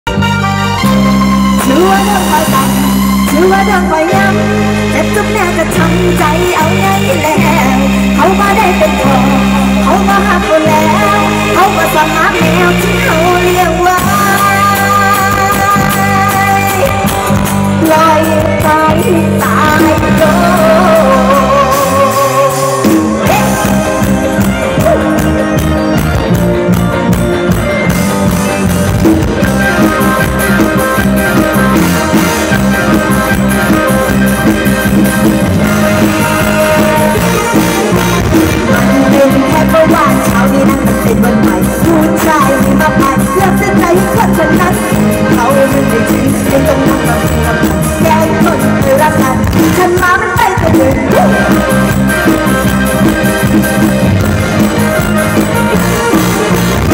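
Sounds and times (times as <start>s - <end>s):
live band music over pa: 0.0s - 56.9s.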